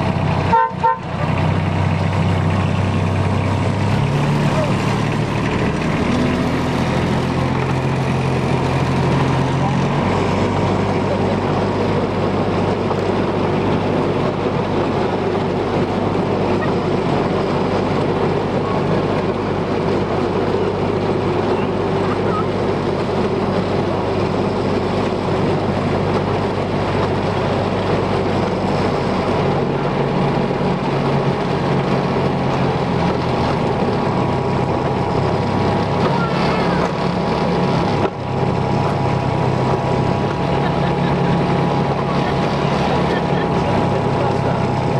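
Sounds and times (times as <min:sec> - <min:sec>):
diesel locomotive engine running: 0:00.0 - 0:44.9.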